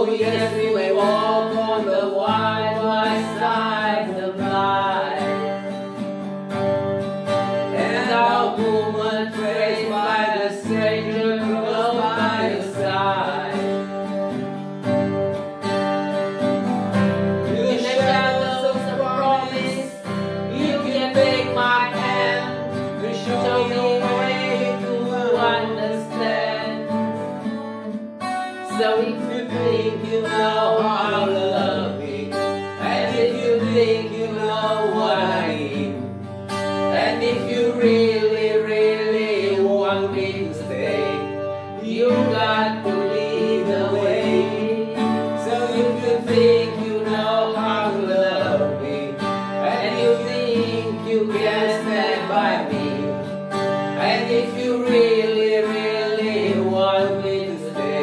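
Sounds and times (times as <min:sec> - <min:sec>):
man and woman singing: 0:00.0 - 0:05.8, 0:07.7 - 0:14.0, 0:17.4 - 0:27.2, 0:28.4 - 0:36.1, 0:36.8 - 0:58.0
acoustic guitar strumming: 0:00.0 - 0:58.0.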